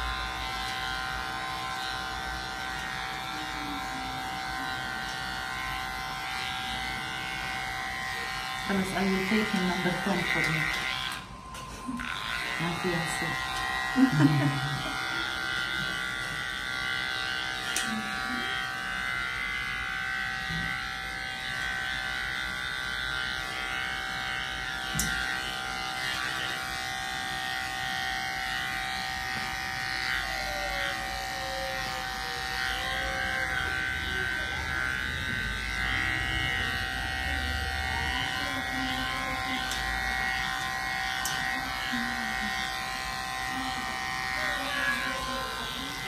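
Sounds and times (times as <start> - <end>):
electric clipper buzzing: 0.0 - 46.0.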